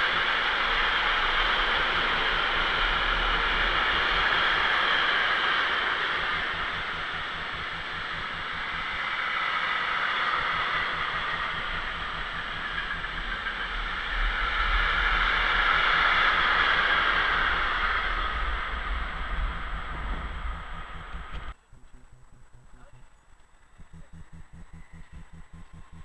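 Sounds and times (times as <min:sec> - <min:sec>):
train wheels rushing on rails: 0:00.0 - 0:21.5
low rumble: 0:00.1 - 0:26.0.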